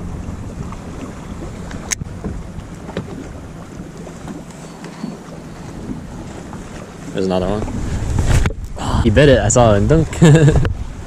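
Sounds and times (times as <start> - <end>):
water sounds: 0.0 - 11.0
wind buffeting microphone: 0.0 - 11.0.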